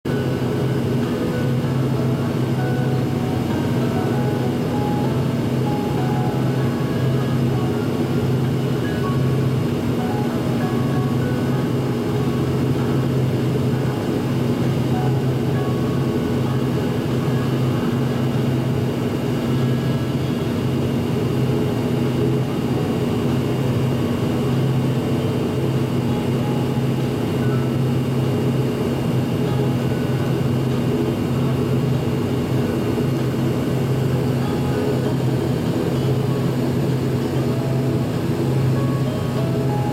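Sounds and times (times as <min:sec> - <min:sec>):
aircraft engines humming: 0:00.0 - 0:39.9.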